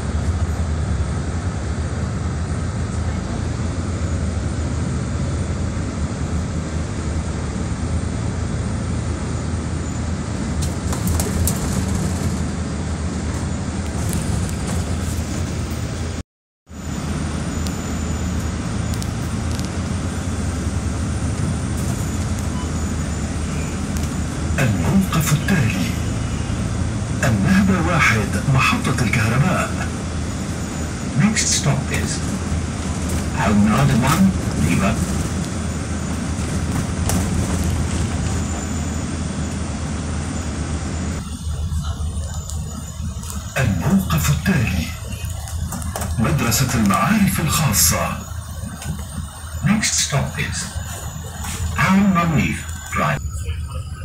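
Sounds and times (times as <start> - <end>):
bus engine drone: 0.0 - 54.0
road and tyre noise: 0.0 - 54.0.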